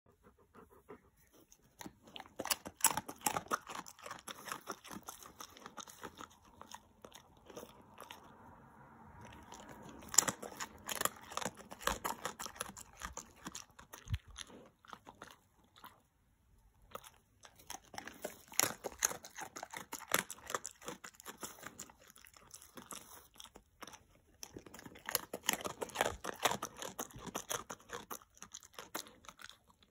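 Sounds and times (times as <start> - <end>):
dog crunching dry treats: 1.7 - 8.4, 9.2 - 16.0, 16.8 - 29.9.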